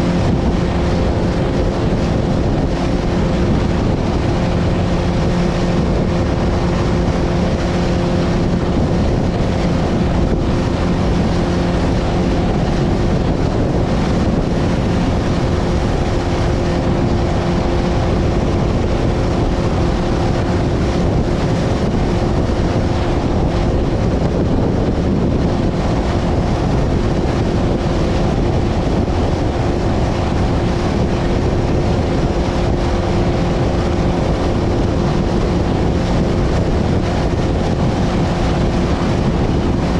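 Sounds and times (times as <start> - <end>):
motorboat engine running: 0.0 - 39.9
water rushing against hull: 0.0 - 39.9
wind buffeting microphone: 0.0 - 39.9.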